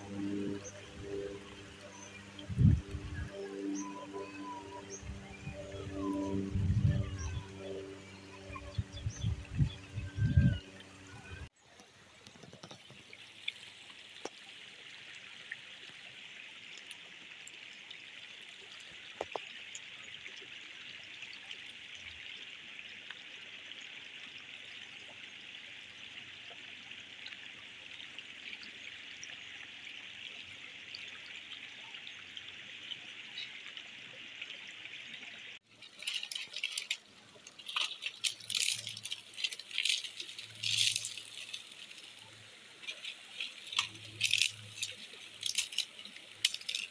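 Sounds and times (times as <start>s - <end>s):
stream trickling over rocks: 0.0s - 46.9s.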